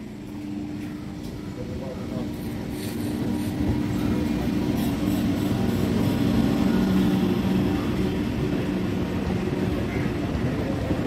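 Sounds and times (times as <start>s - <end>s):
electric train rumbling in: 0.0s - 11.0s.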